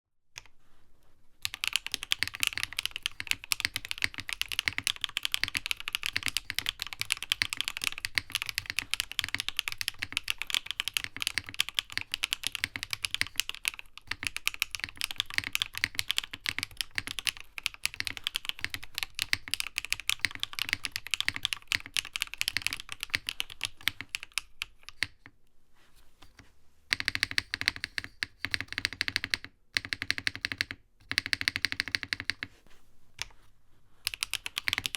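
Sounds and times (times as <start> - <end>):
mechanical keyboard typing: 1.4 - 25.3, 26.9 - 32.5, 34.1 - 34.9.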